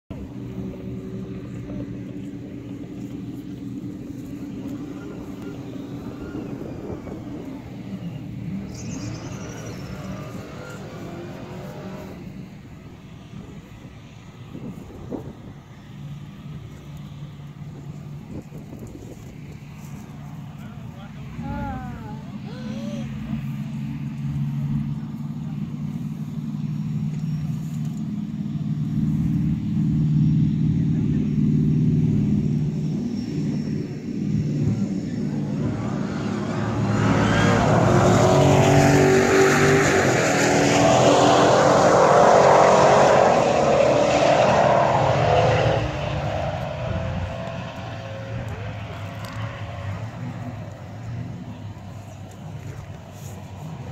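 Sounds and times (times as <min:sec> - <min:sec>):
car engines idling: 0:00.1 - 0:53.9.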